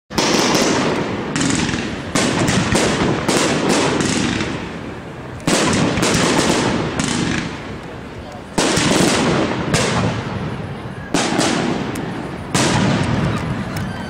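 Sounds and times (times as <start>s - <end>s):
fireworks bangs: 0.1s - 14.0s
fireworks crackle: 0.1s - 14.0s.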